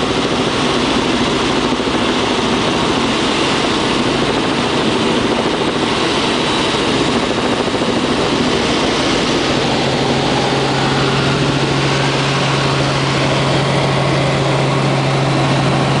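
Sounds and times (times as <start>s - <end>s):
helicopter engine and rotors droning: 0.0s - 16.0s
low hum: 0.0s - 16.0s.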